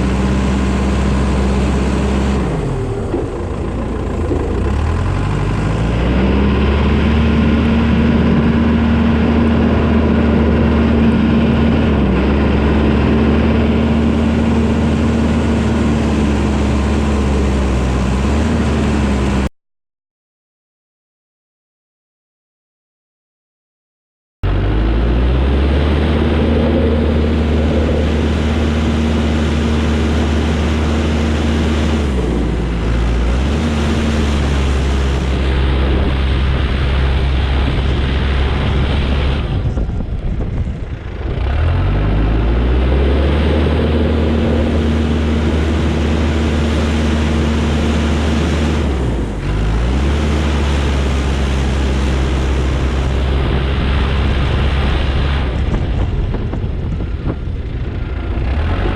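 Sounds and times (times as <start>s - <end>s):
diesel engine running: 0.0s - 19.5s, 24.4s - 58.9s.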